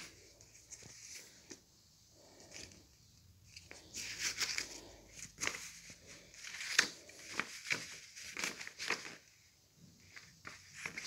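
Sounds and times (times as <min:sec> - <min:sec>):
paper leaflet rustling: 0:00.0 - 0:01.6, 0:03.4 - 0:11.0.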